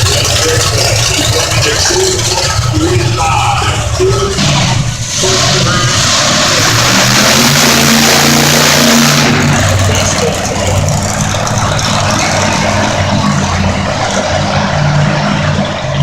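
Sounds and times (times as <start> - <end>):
loud rush of noise: 0.0 - 16.0
monster truck engine running: 0.0 - 16.0.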